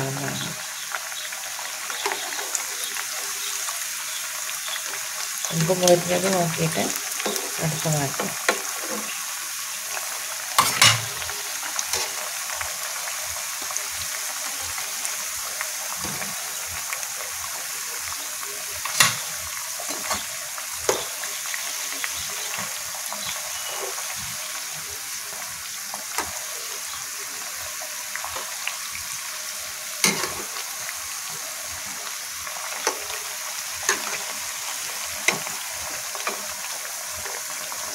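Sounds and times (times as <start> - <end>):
deep-frying sizzle: 0.0 - 37.9.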